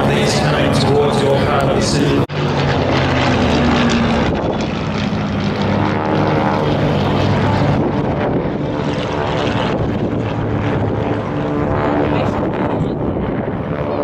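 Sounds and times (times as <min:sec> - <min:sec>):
propeller aircraft droning: 0:00.0 - 0:14.0.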